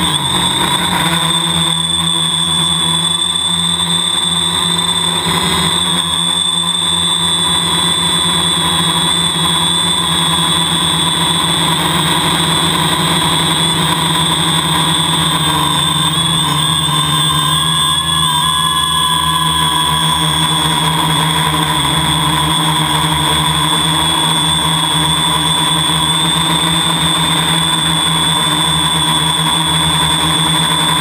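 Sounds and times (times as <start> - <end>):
drone motors whining: 0.0 - 31.0.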